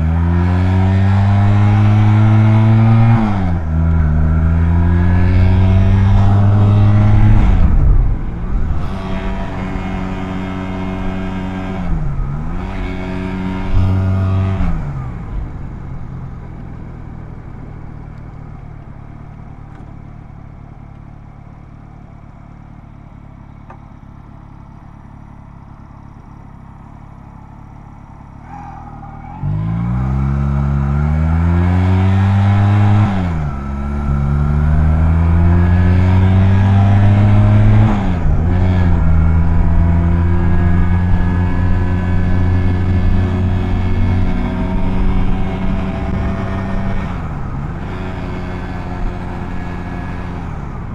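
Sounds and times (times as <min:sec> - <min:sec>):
motorcycle engine revving and idling: 0:00.0 - 0:50.9.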